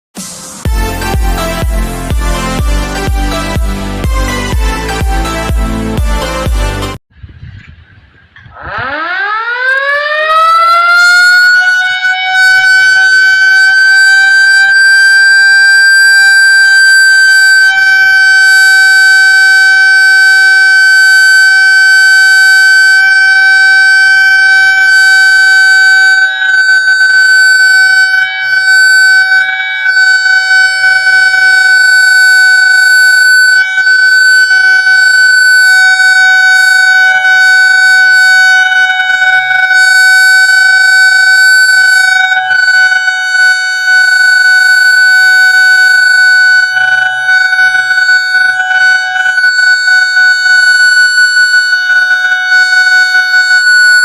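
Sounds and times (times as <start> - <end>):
air-raid siren: 0.6 - 7.0, 8.4 - 54.0.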